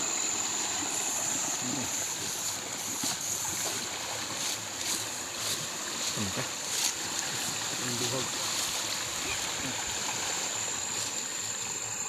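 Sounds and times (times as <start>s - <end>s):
river water rushing: 0.0s - 12.0s
water splashes: 0.0s - 12.0s.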